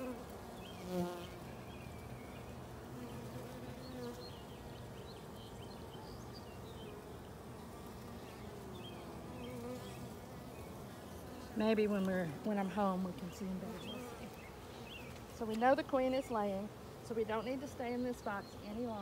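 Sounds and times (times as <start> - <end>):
honey bees buzzing: 0.0 - 19.0.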